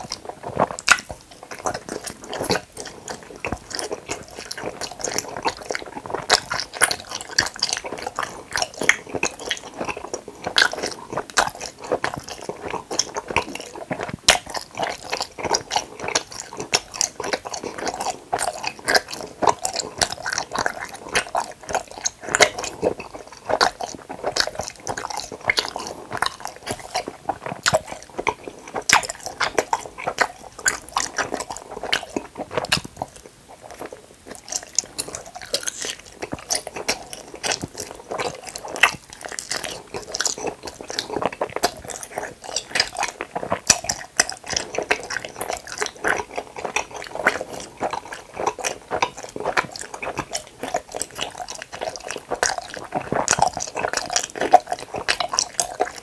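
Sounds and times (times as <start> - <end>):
chewing with mouth clicks: 0.0 - 56.0.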